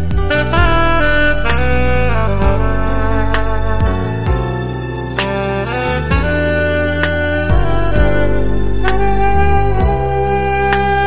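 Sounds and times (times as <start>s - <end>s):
bass line: 0.0s - 11.0s
saxophone slow melody: 0.0s - 11.0s.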